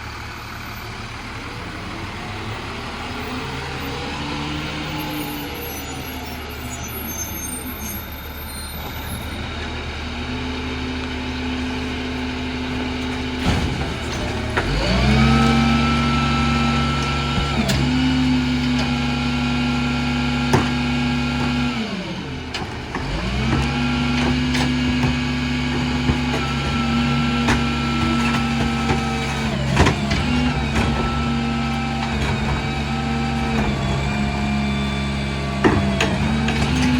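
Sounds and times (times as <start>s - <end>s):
garbage truck diesel engine revving: 0.0s - 6.7s, 9.4s - 36.9s.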